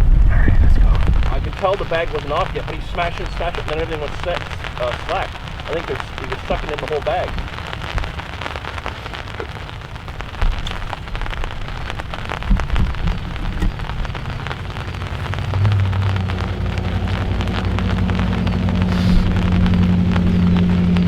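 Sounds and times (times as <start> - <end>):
low engine hum: 0.0 - 21.0
rain patter on microphone: 0.0 - 21.0.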